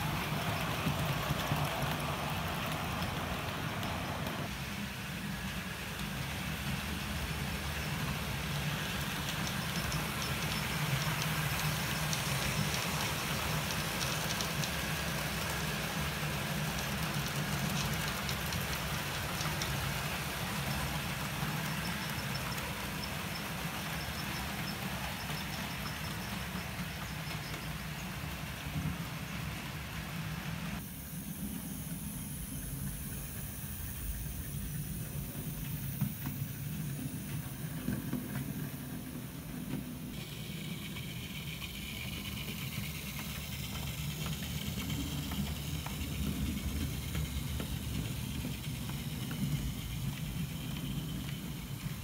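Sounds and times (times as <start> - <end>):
wheels clicking over rail joints: 0.0 - 30.8, 31.4 - 52.0
model train motors rumbling: 0.0 - 52.0.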